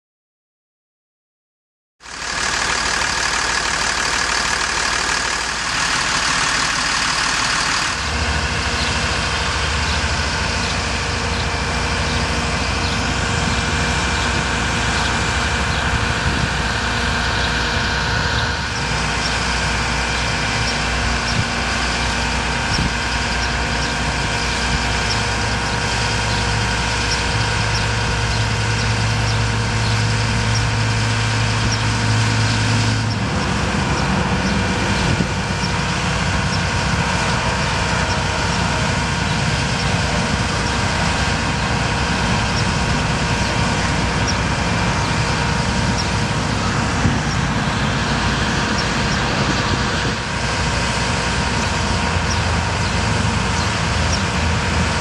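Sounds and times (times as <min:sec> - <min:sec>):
deeper hum: 0:02.0 - 0:55.0
truck engine running: 0:02.0 - 0:55.0.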